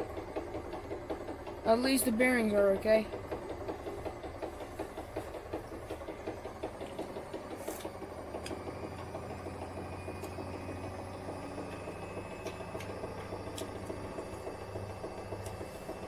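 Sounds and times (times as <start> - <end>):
washing machine knocking rattle: 0.0 - 16.0
washing machine low hum: 0.0 - 16.0.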